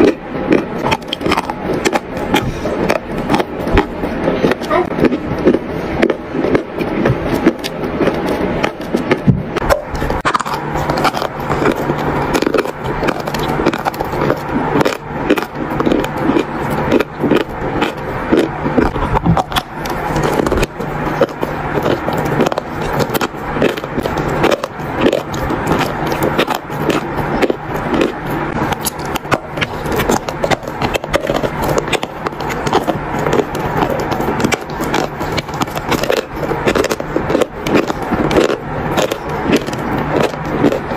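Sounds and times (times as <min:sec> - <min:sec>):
chalk being chewed: 0:00.0 - 0:40.9.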